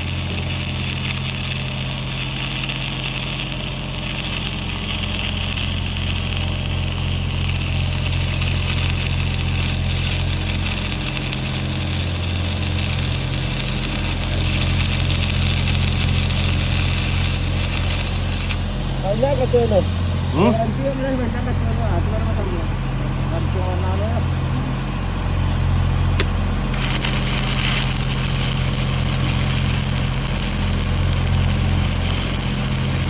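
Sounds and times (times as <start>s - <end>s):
welding arc crackling: 0.0s - 24.5s, 25.2s - 33.0s
engine humming: 0.0s - 33.0s.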